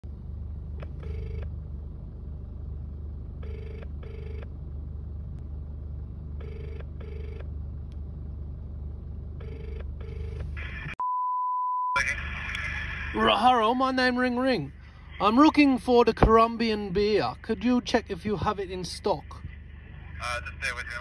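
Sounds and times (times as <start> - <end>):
steady low hum: 0.0 - 11.0, 12.0 - 21.0.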